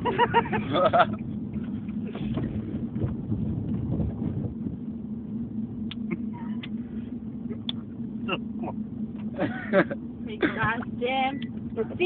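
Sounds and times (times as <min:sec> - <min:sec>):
car engine hum: 0:00.0 - 0:12.0
road noise inside car: 0:00.0 - 0:12.0.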